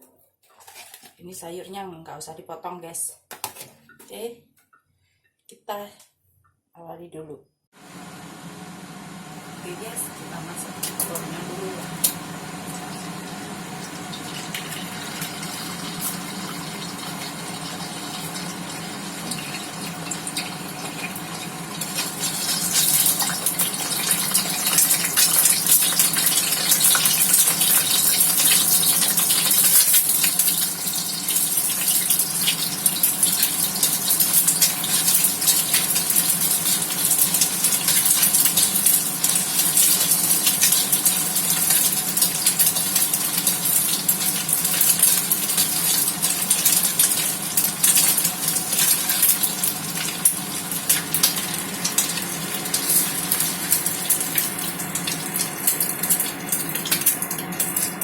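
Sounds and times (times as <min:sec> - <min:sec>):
egg sizzling in hot oil: 0:07.8 - 0:58.0.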